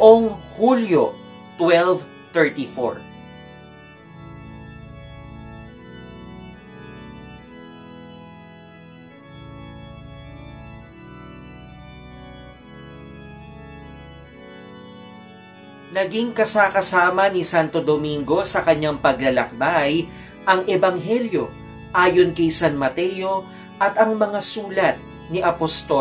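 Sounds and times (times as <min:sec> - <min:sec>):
sustained organ chords: 0:00.0 - 0:26.0.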